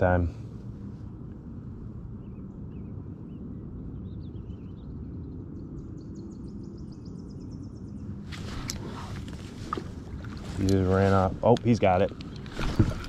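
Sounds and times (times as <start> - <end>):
low rumble of wind: 0.0 - 13.0.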